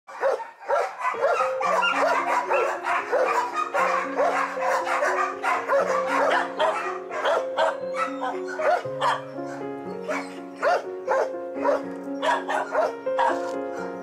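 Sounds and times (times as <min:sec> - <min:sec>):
dogs barking: 0:00.1 - 0:14.0
background music with held notes: 0:00.7 - 0:14.0.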